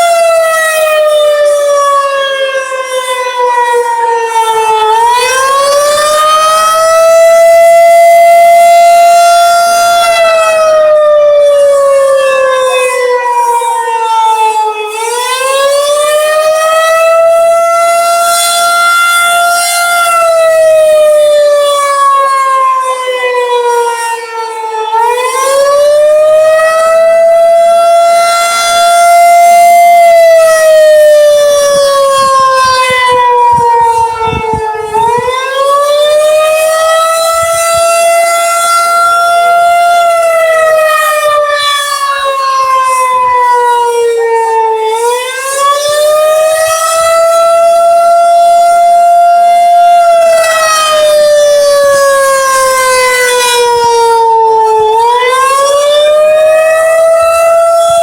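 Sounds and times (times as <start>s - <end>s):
tornado siren wailing: 0.0s - 58.0s.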